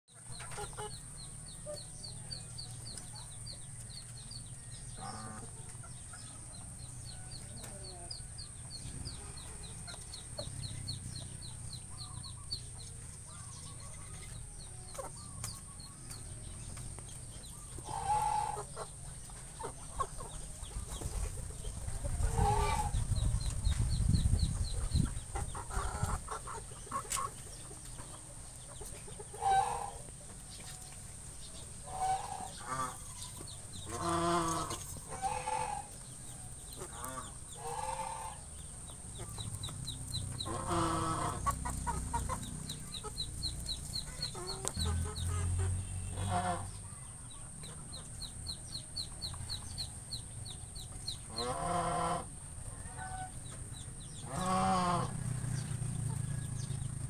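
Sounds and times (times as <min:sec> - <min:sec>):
chickens clucking: 0:00.1 - 0:57.0.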